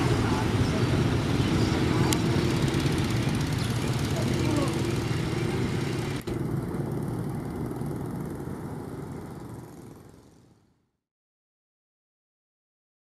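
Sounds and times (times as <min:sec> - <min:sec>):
small motorcycle engines running: 0:00.0 - 0:10.9.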